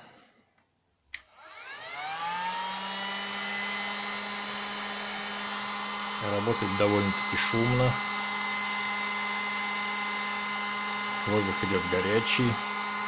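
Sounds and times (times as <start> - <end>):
heat gun fan humming: 1.1 - 13.0.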